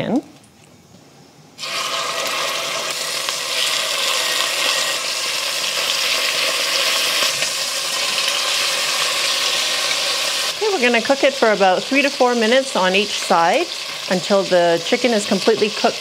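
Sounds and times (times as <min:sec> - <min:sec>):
chicken sizzling in hot oil: 0:01.6 - 0:16.0.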